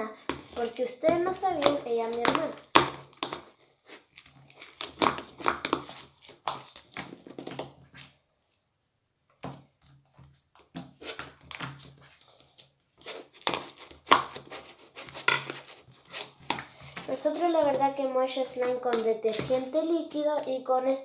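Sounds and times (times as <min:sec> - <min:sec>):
slime squishing in a bowl: 0:00.0 - 0:08.2, 0:09.5 - 0:21.0.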